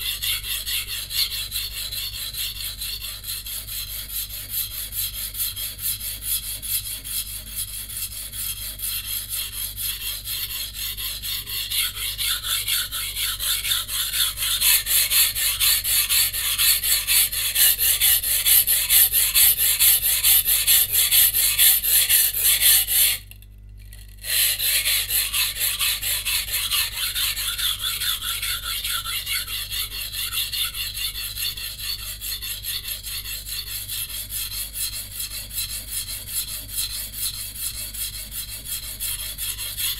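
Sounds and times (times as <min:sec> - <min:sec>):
knife scraping on whetstone: 0:00.0 - 0:23.2, 0:24.2 - 0:39.9.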